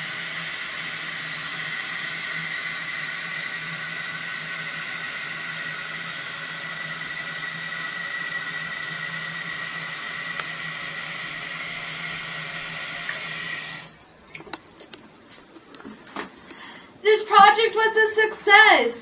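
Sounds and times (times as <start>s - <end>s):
toilet tank refilling with water: 0.0s - 17.0s.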